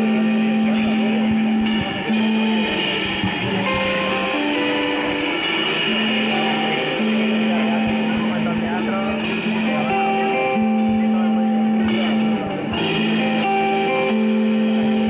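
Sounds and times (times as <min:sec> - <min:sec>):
bass guitar: 0:00.0 - 0:15.0
cymbal hits: 0:00.0 - 0:15.0
drum kit: 0:00.0 - 0:15.0
electric guitars: 0:00.0 - 0:15.0.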